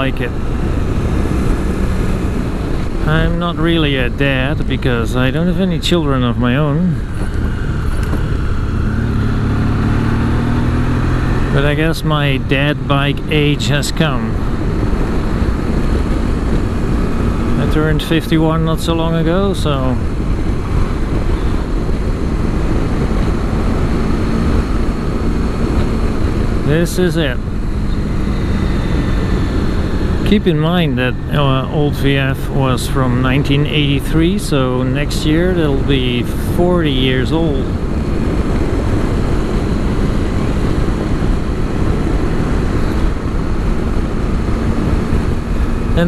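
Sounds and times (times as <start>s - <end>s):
motorcycle engine running: 0.0s - 46.0s
wind rushing on microphone: 0.0s - 46.0s.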